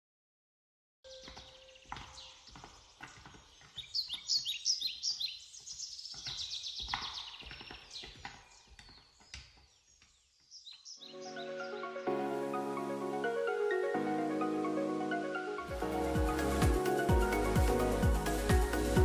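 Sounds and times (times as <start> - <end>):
songbirds chirping and trilling: 1.1 - 19.0.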